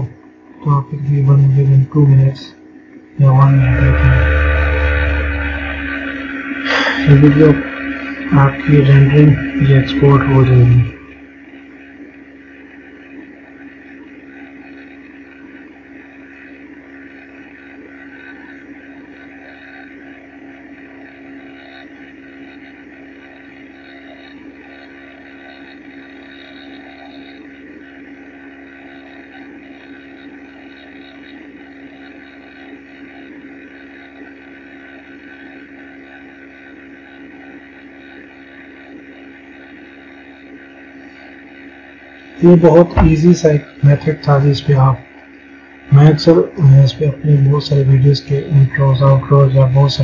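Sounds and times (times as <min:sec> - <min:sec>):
droning hum: 0:00.0 - 0:50.0.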